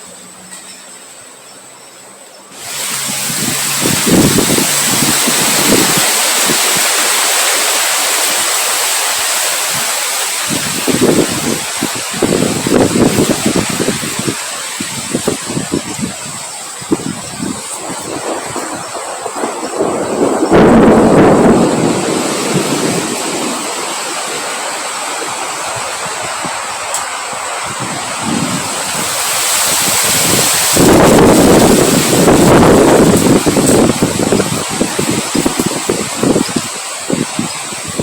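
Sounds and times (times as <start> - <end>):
strong gusty wind on microphone: 2.6 - 38.0.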